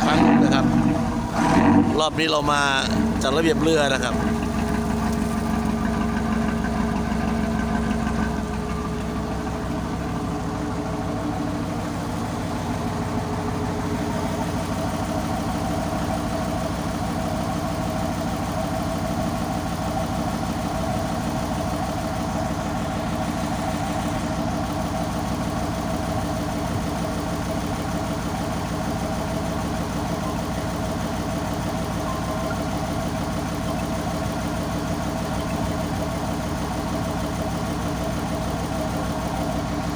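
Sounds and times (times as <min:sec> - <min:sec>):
tugboat engine running: 0:00.0 - 0:39.9.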